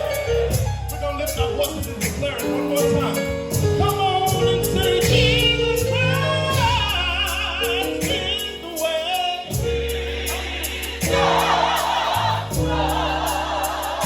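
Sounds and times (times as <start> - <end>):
bass line: 0.0 - 14.0
keyboard chords: 0.0 - 14.0.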